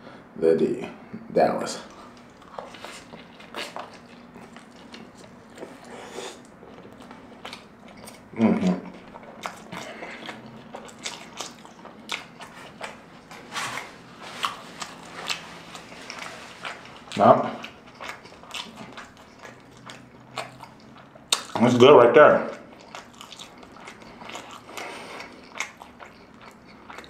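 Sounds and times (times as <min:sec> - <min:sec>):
chewing with wet smacking: 0:01.8 - 0:27.0.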